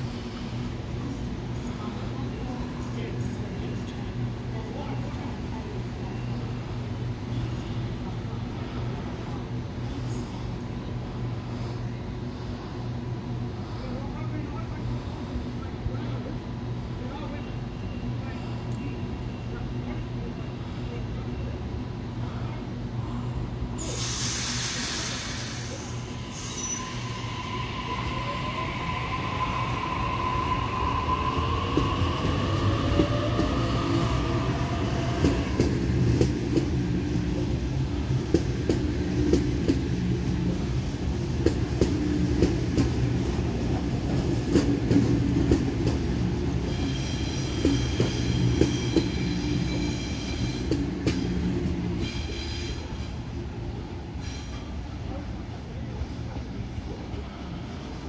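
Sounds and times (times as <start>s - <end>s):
arriving train high whine: 0.0s - 58.0s.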